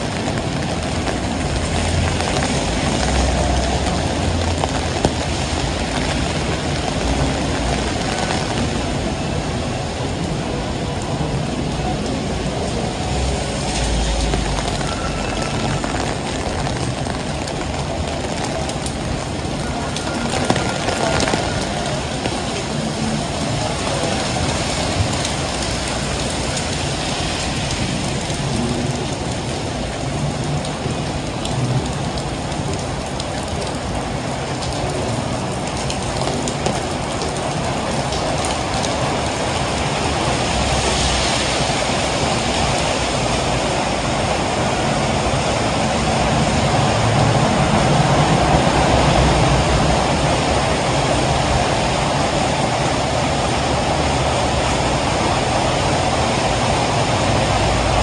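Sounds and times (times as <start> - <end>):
heavy rain falling: 0.0 - 58.0
traffic hum: 0.0 - 58.0.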